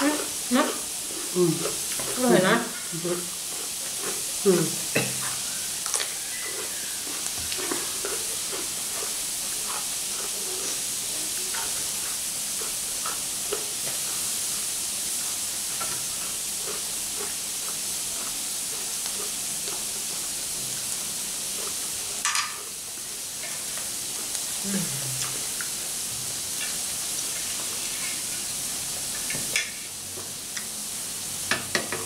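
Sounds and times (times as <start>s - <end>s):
squid sizzling on a grill: 0.0s - 32.0s.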